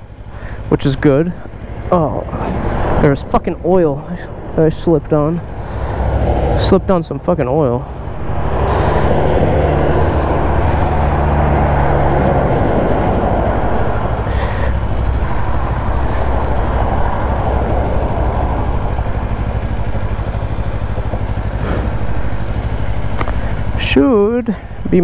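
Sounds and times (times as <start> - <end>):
motorcycle engine running: 0.0 - 25.0
wind rushing over microphone: 1.6 - 22.2.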